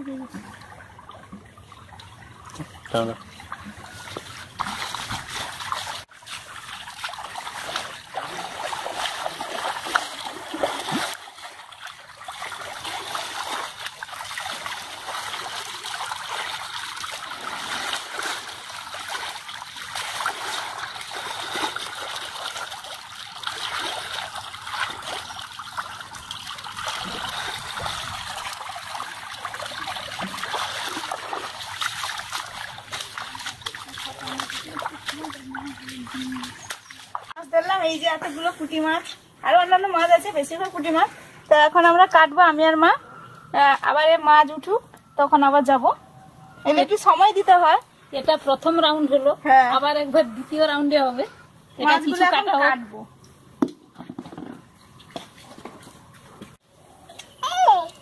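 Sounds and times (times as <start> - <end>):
water trickling and splashing: 0.0 - 43.0, 43.6 - 58.0.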